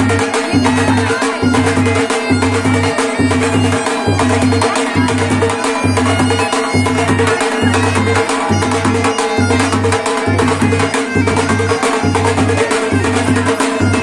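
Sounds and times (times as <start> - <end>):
dhol drums beating: 0.0 - 14.0
droning reed pipe: 0.3 - 12.7.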